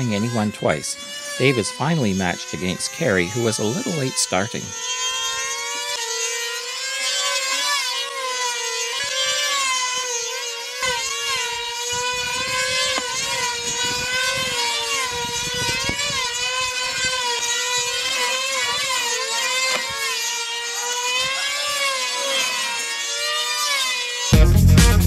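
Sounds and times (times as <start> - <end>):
model plane engines screaming: 0.0 - 24.4.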